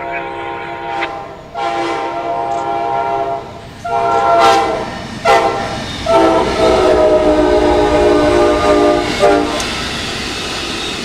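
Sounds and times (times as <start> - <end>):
locomotive air horn blasts: 0.0 - 9.7.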